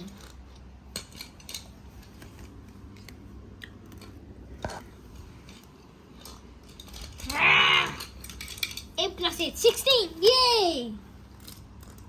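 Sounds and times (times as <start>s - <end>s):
toy cars clicking and tapping: 0.0s - 4.8s, 5.4s - 12.0s.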